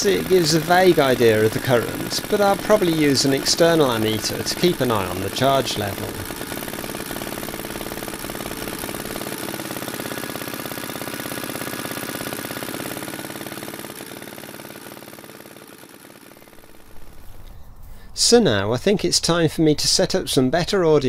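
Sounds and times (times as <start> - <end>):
small generator engine running: 0.0 - 18.0.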